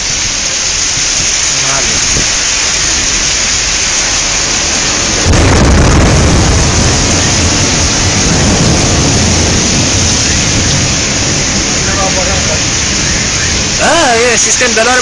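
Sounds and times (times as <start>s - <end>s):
heavy rain pouring: 0.0s - 15.0s
loud thunderclap rumbling: 0.0s - 15.0s.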